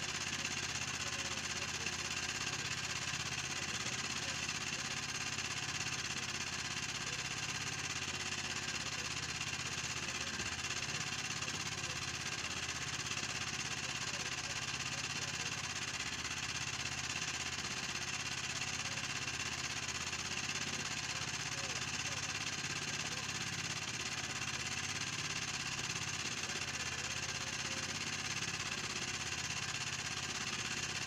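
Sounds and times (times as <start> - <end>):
small engine humming: 0.0 - 31.0.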